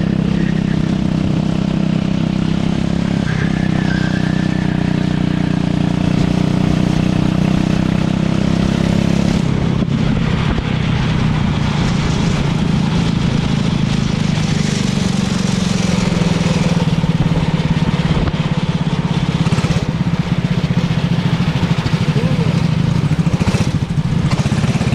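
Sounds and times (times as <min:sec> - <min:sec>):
go-kart engine running: 0:00.0 - 0:24.9.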